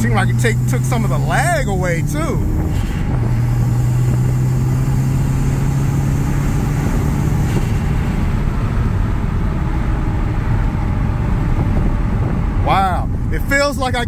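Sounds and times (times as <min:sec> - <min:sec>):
car engine inside cabin: 0:00.0 - 0:13.8
road and tyre noise: 0:00.0 - 0:14.0.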